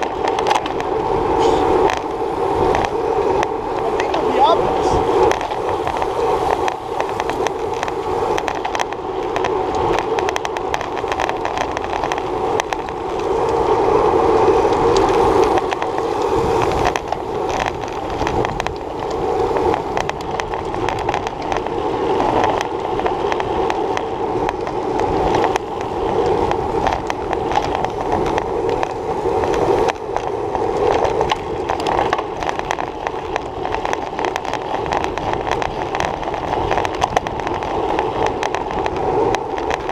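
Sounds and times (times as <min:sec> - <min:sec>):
bike tyres rumbling on asphalt: 0:00.0 - 0:39.9
wind noise: 0:00.0 - 0:39.9.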